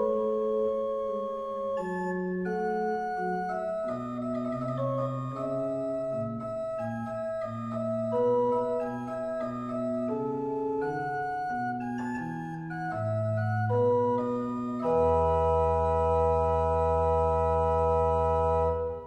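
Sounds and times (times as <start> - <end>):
organ playing slow piece: 0.0 - 19.0.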